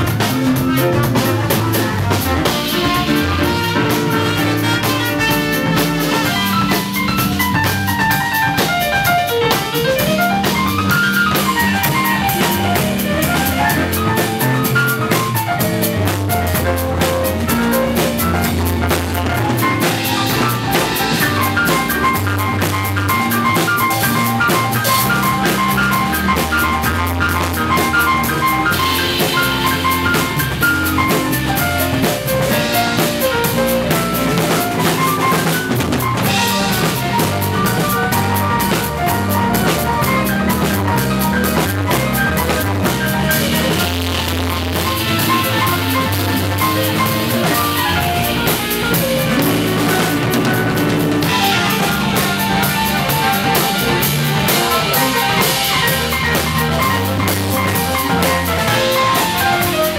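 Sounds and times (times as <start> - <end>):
drum kit: 0.0 - 59.9
electric keyboard piano notes: 0.0 - 59.9
low bass notes: 0.0 - 59.9.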